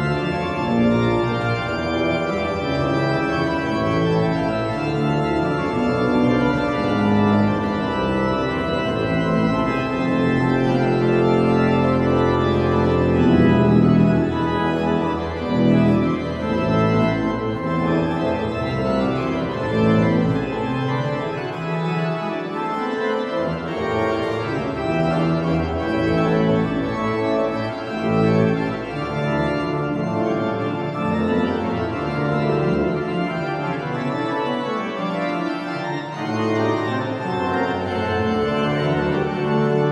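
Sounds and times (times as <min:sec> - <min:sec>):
organ playing held chords: 0:00.0 - 0:39.9.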